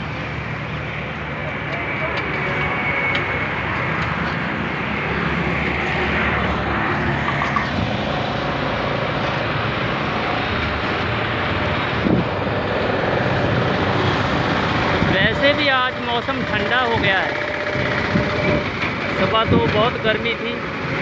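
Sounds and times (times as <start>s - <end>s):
motorcycle engine and wind: 0.0s - 21.0s.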